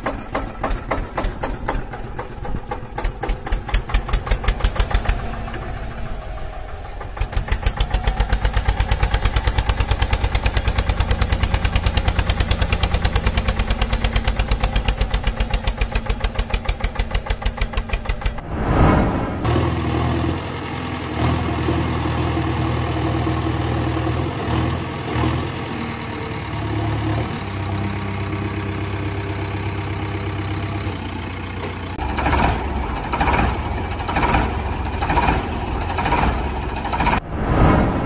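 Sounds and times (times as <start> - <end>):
diesel engine idling: 0.0 - 18.4, 19.5 - 37.2.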